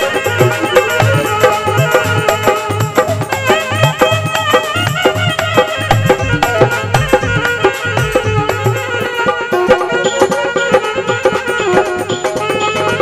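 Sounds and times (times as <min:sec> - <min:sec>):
fast hand drum rhythm: 0:00.0 - 0:13.0
percussion: 0:00.0 - 0:13.0
saxophone melody: 0:00.0 - 0:13.0.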